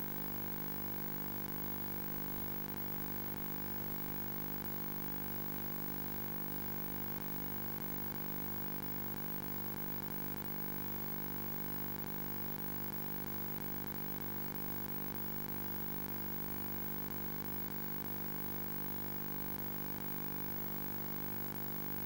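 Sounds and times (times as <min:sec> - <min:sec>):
electronic hum and buzz: 0:00.0 - 0:22.0.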